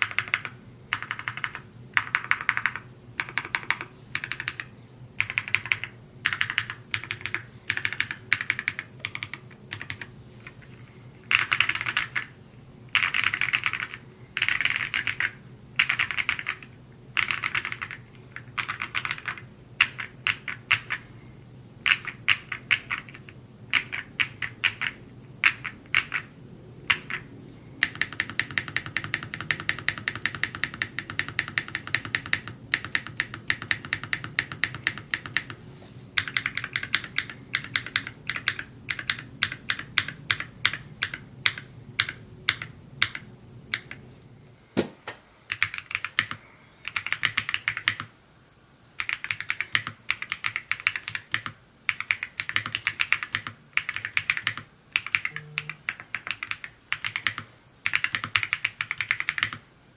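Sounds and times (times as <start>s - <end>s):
mechanical keyboard typing: 0.0s - 21.0s, 21.8s - 26.3s, 26.9s - 35.6s, 36.2s - 44.0s, 45.5s - 48.1s, 49.0s - 59.6s.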